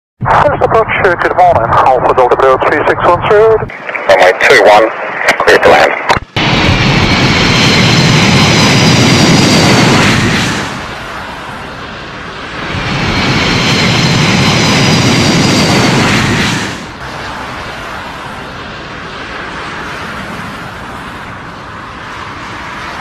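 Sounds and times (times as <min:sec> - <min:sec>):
jet engines roaring: 0:00.2 - 0:23.0.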